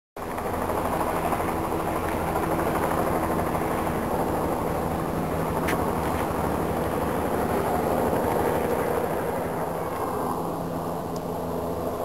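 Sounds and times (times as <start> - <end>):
helicopter hovering: 0.2 - 12.0.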